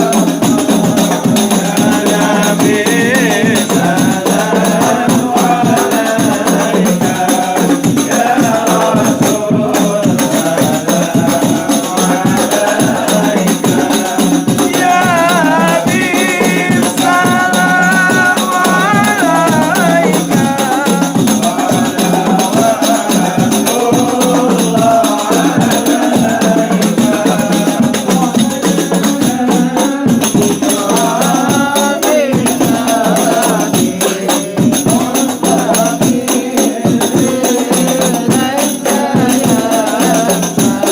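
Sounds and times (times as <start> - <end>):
frame drums beating rapidly: 0.0 - 40.9
group chanting a melody: 0.0 - 40.9.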